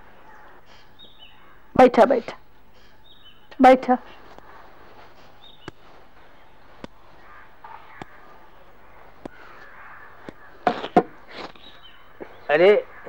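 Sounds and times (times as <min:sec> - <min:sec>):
faint murmuring: 0:00.0 - 0:13.0
film soundtrack hiss: 0:00.0 - 0:13.0.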